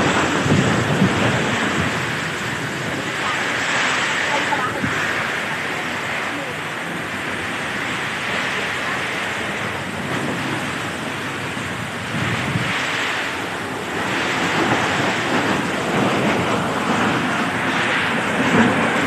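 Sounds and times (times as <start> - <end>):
heavy rain: 0.0 - 19.0
strong wind: 0.0 - 19.0.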